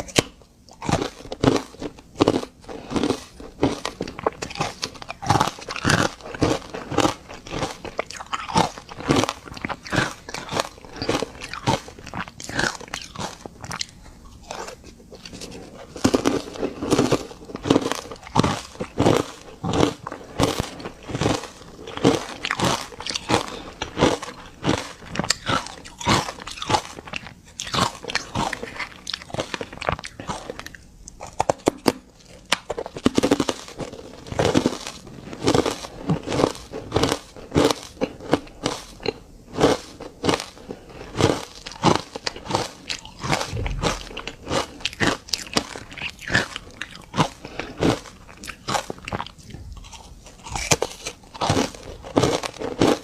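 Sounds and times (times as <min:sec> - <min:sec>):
crunching ice: 0:00.0 - 0:53.0.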